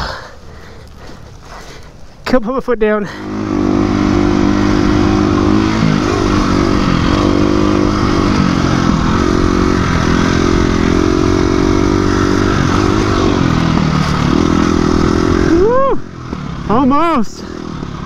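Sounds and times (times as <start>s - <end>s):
dirt bike engine revving: 3.1s - 18.0s.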